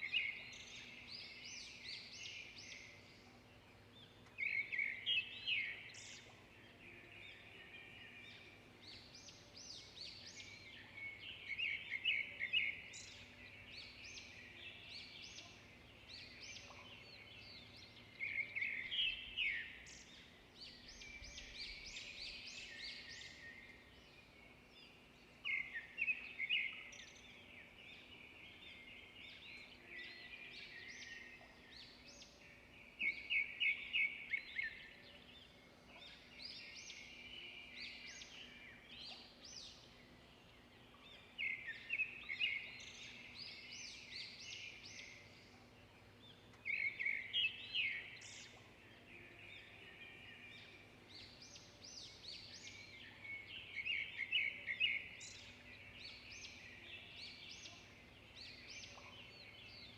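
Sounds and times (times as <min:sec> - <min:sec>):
bird song of rapid notes: 0:00.0 - 0:59.9
songbirds chirping: 0:00.0 - 0:59.9.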